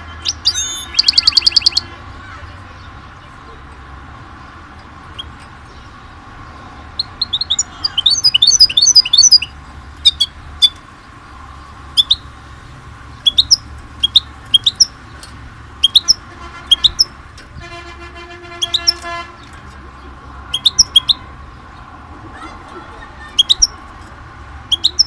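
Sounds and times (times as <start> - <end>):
songbird chirping: 0.0 - 17.2, 18.6 - 23.9, 24.6 - 25.0.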